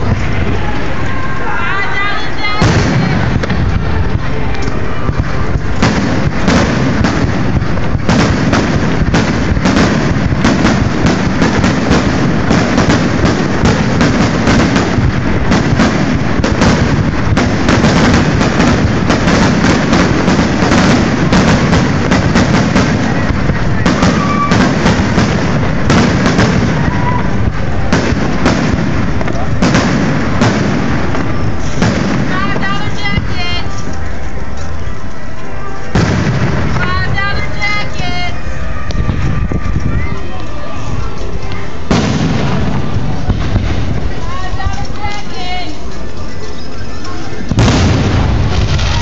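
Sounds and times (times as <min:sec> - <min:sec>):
fireworks bangs and booms: 0:02.0 - 0:46.1, 0:47.4 - 0:49.0.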